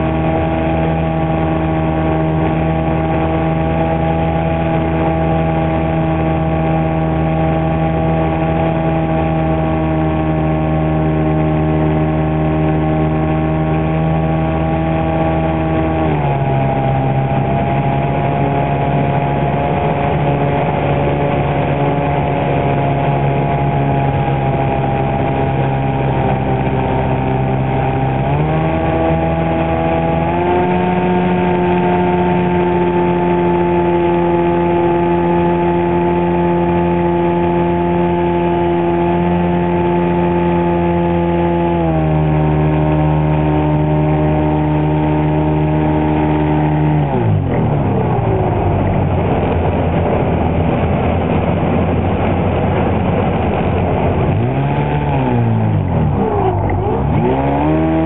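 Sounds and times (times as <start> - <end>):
model airplane motor and propeller: 0.0 - 58.0.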